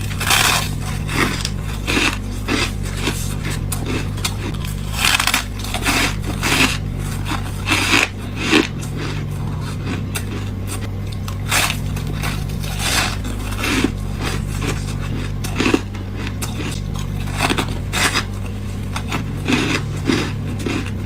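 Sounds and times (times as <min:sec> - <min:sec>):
frost crunching between teeth: 0:00.0 - 0:21.0
low hum: 0:00.0 - 0:21.0.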